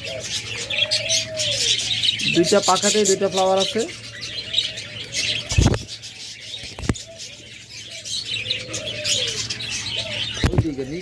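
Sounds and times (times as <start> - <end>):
dove cooing: 0.0 - 11.0
small birds chirping: 0.0 - 11.0.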